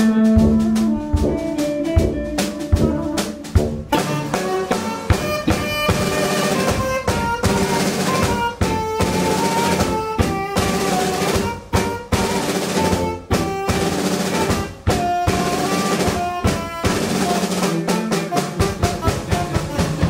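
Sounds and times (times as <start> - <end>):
drum kit: 0.0 - 20.0
electric guitar: 0.0 - 20.0
tenor saxophone: 0.0 - 20.0
tuba: 0.0 - 20.0.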